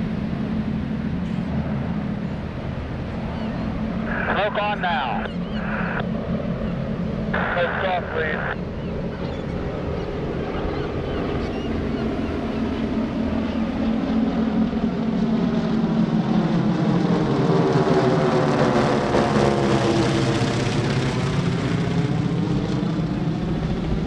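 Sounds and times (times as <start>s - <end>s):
propeller planes droning: 0.0s - 24.0s.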